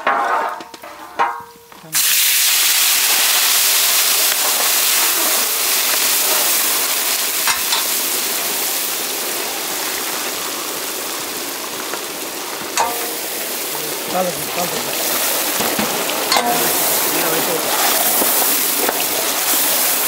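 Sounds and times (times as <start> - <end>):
meat sizzling in hot oil: 1.9 - 20.0.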